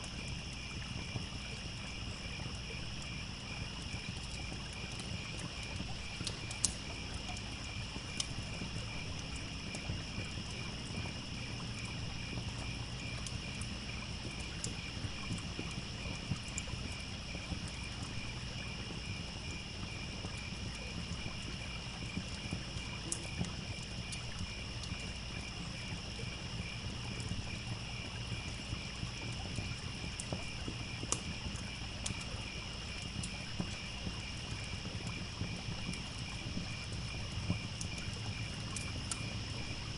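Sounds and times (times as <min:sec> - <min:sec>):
campfire crackling: 0:00.0 - 0:39.9
crickets chirping: 0:00.0 - 0:39.9
stream trickling: 0:00.0 - 0:39.9.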